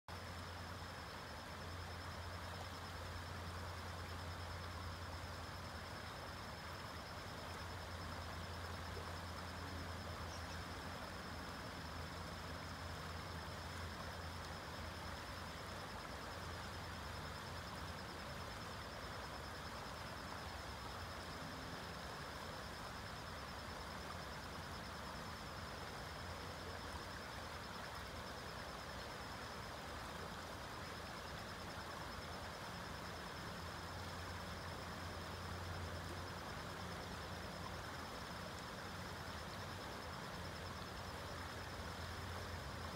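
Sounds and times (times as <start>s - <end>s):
creek running over rocks: 0.1s - 42.9s
high insect trill: 0.1s - 42.9s.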